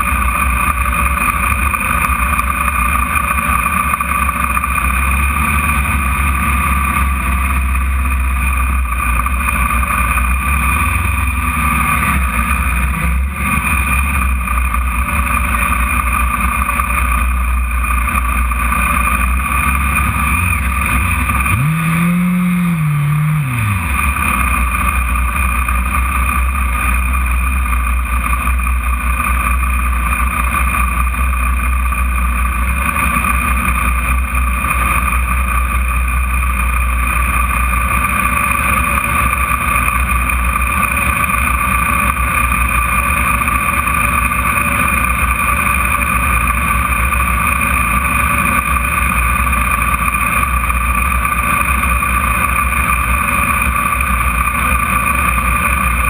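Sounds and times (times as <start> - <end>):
race car engine idling: 0.0 - 56.0
engine revving: 0.4 - 56.0.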